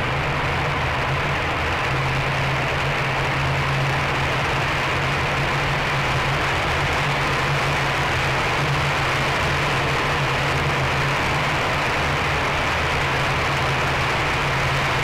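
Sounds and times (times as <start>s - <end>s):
low steady drone: 0.0s - 15.0s
wheels rumbling on road: 0.0s - 15.0s.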